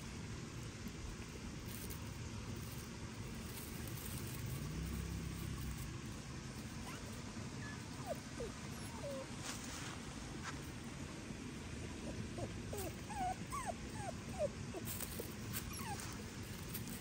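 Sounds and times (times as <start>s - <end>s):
distant traffic rumble: 0.0s - 17.0s
engine hum: 0.0s - 17.0s.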